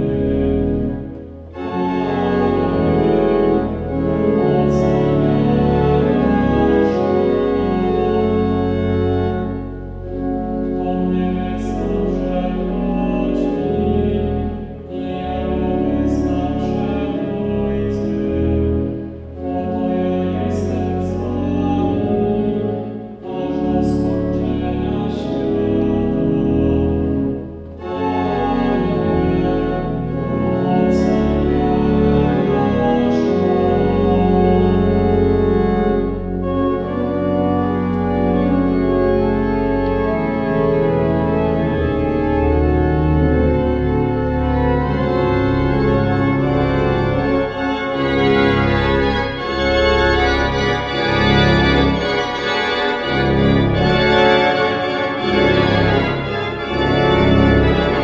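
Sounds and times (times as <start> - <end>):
pipe organ playing a hymn: 0.0 - 58.0.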